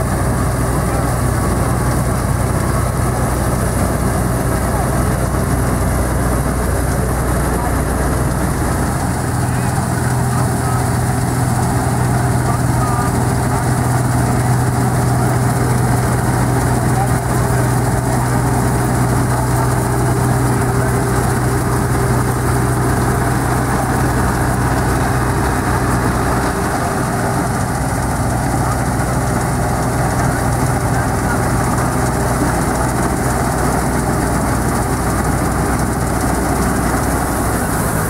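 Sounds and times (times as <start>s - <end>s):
clatter of threshing works: 0.0s - 38.0s
combine harvester engine hum: 0.0s - 38.0s.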